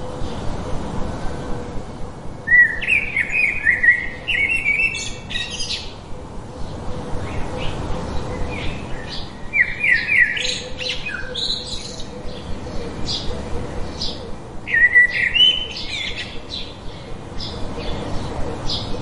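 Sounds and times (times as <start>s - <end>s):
bird twittering: 2.5s - 6.0s, 6.6s - 19.0s.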